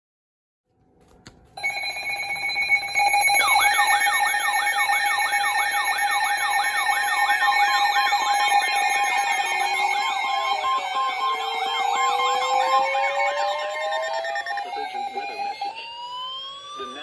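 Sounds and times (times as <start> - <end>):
siren-like sweeping alarm: 1.6 - 17.0
steady electronic tone: 1.6 - 17.0.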